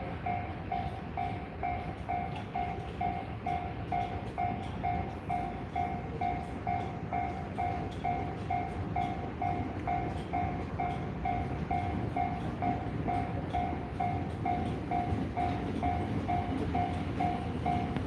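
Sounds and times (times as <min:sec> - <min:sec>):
level-crossing warning bell: 0:00.0 - 0:18.0
train running past: 0:00.0 - 0:18.0.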